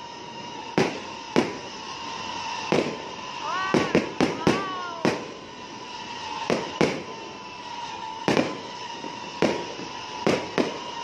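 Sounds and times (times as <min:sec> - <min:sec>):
fireworks bangs with echo: 0:00.0 - 0:11.0.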